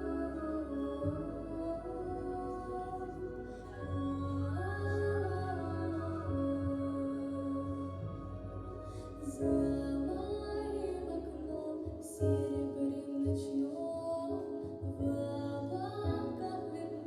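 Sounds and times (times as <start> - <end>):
girl singing a slow song: 0.0 - 17.0.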